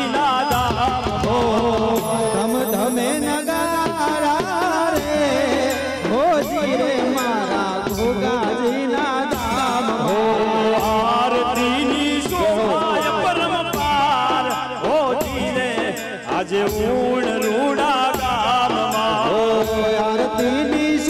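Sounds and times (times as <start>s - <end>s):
instruments and percussion: 0.0s - 21.0s
voices singing devotional song: 0.0s - 21.0s.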